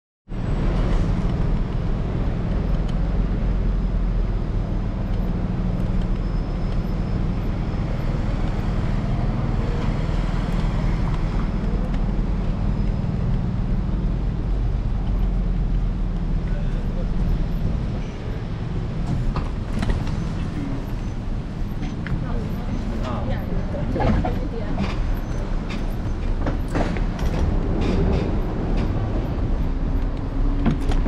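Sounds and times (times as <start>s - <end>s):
steady low rumble: 0.3s - 30.8s
city street traffic: 0.3s - 31.0s.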